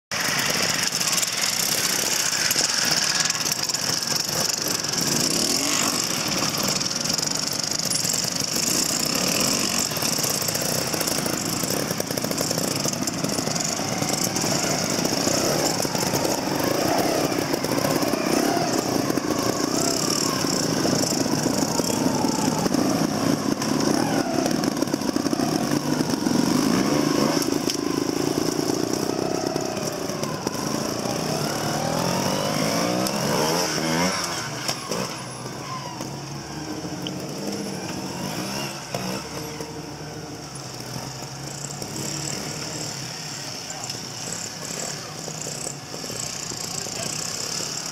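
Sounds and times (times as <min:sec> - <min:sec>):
motorcycle engines revving: 0:00.1 - 0:47.9.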